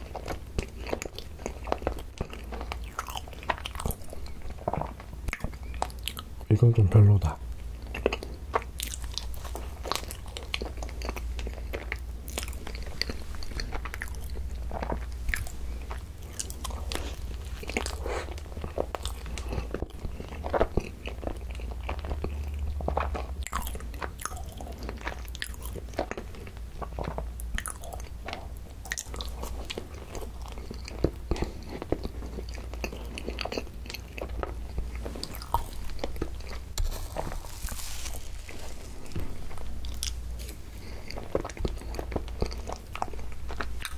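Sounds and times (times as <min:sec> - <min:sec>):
chewing soft bun: 0:00.0 - 0:43.9.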